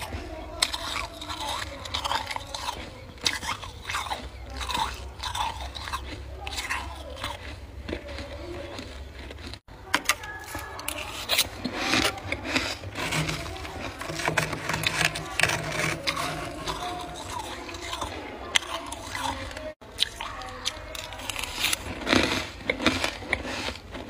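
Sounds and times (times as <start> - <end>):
metal spoon scraping frost: 0.0 - 7.4, 9.8 - 24.0.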